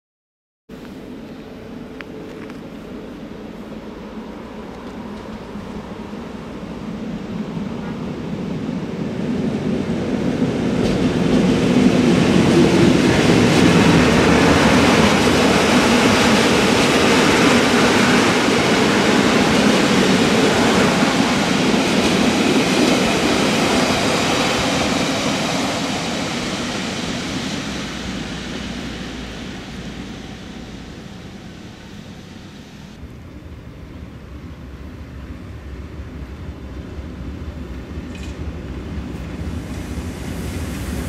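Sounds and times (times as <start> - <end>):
train wheels rumbling and rattling: 1.1 - 32.8, 34.0 - 41.0.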